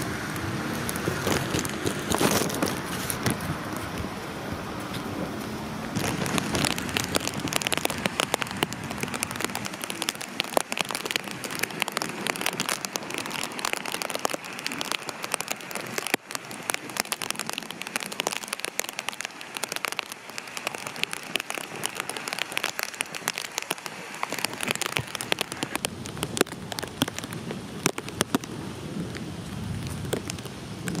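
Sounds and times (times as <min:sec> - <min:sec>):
rain hiss: 0:00.0 - 0:31.0
raindrops ticking near microphone: 0:00.0 - 0:31.0.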